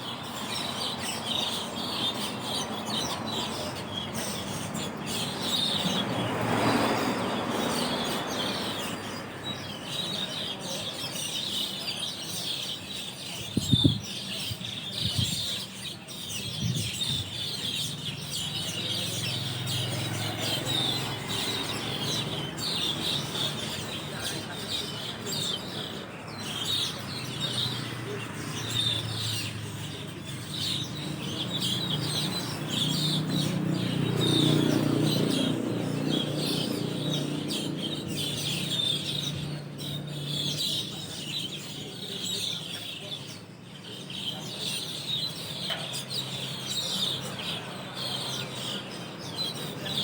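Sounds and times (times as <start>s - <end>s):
starlings twittering and chattering: 0.0s - 50.0s.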